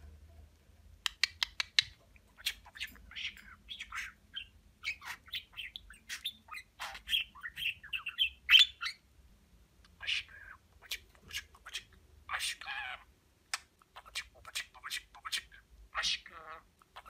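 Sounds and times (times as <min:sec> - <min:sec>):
budgerigar chattering: 0:01.2 - 0:09.0, 0:10.0 - 0:13.1, 0:13.9 - 0:17.0.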